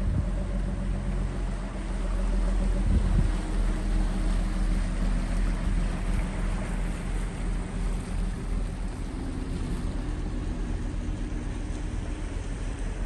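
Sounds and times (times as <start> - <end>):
boat engine humming: 0.0 - 13.0
wind and water hiss: 0.0 - 13.0.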